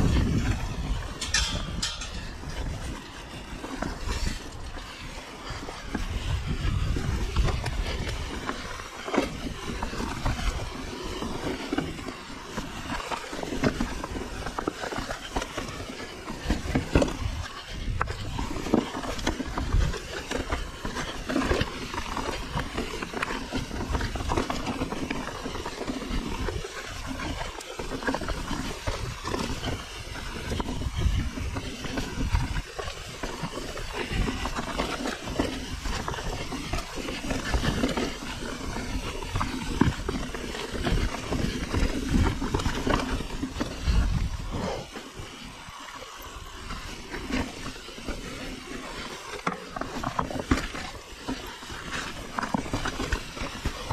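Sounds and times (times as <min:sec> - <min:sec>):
bike knocking and rattling: 0:00.0 - 0:53.9
tyres crunching over stones: 0:00.0 - 0:53.9.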